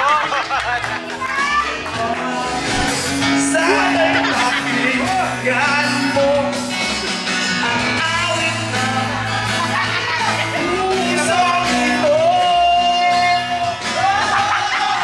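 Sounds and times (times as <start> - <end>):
acoustic guitar: 0.0 - 15.0
keyboard: 0.0 - 15.0
bass line: 1.5 - 14.3
person singing: 1.6 - 15.0.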